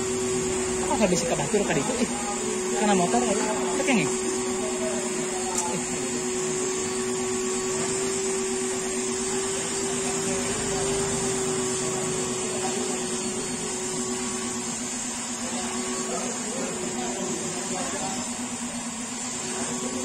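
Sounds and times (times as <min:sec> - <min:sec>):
machine motor humming: 0:00.0 - 0:20.0.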